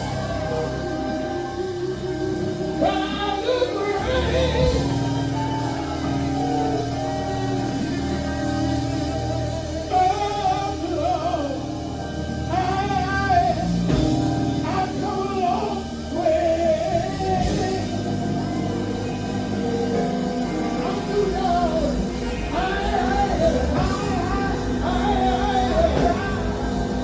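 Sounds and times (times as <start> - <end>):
backing band with bass and guitar: 0.0 - 27.0
people singing gospel: 0.0 - 27.0.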